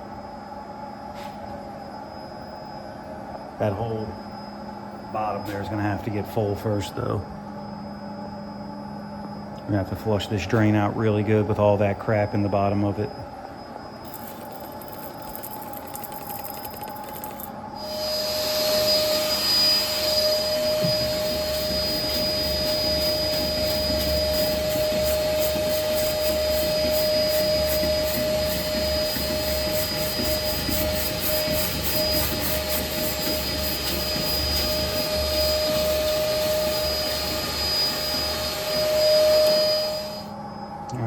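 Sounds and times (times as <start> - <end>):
wet dry vacuum whining: 0.0 - 41.0.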